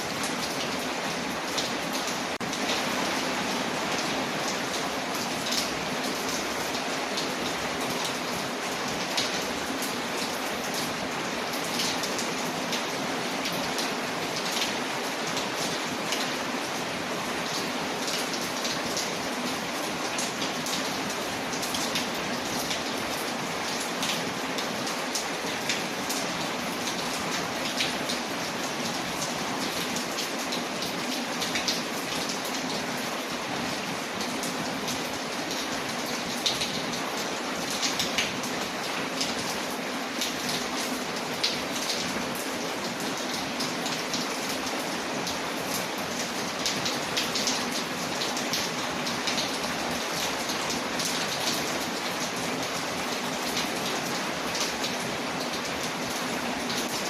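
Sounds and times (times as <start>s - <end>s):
rain against a window: 0.0s - 57.0s.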